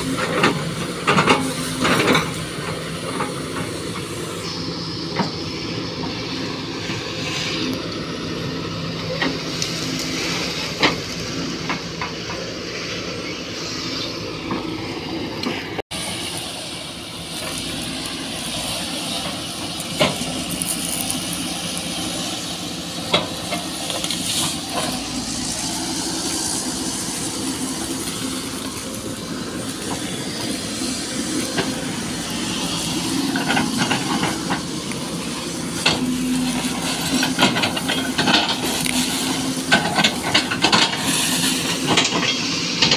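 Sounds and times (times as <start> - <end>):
excavator engine and hydraulics: 0.0 - 42.9.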